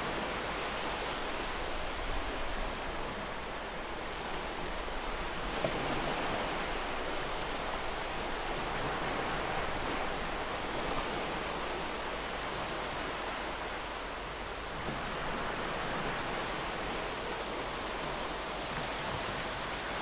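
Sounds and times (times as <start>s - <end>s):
ocean surf washing ashore: 0.0s - 20.0s.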